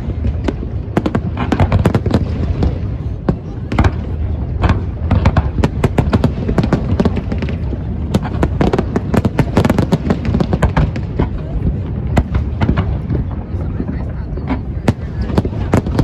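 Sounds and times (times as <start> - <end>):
fireworks bangs and cracks: 0.0 - 16.0
low rumble of booms: 0.0 - 16.0.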